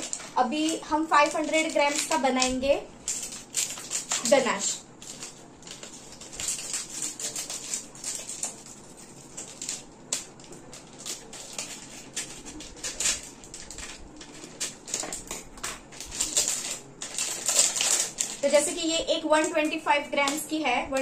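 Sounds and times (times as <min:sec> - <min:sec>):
plastic packaging rustling: 0:00.0 - 0:21.0.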